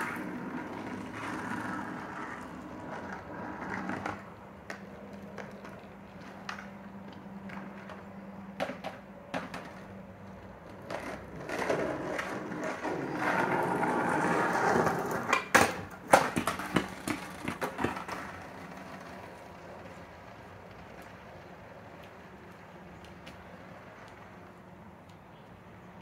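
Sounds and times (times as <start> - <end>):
skateboard clacks: 0.0 - 24.4
skateboard wheels rolling on pavement: 0.0 - 26.0.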